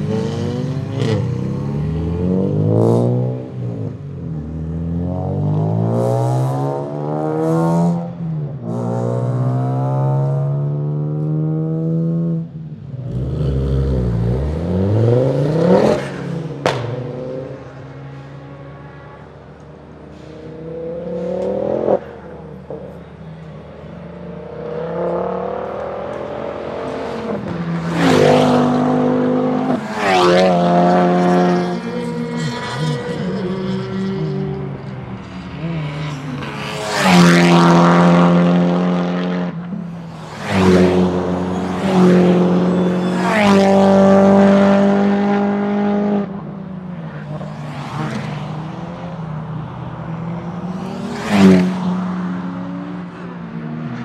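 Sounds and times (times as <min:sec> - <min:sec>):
car engines accelerating through shifts: 0:00.0 - 0:54.0.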